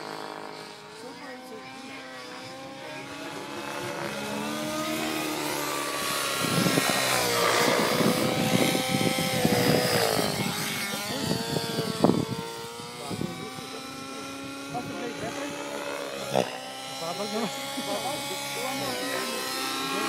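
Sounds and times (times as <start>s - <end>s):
model helicopter engine whining: 0.0s - 20.0s
rotor chopping: 0.0s - 20.0s.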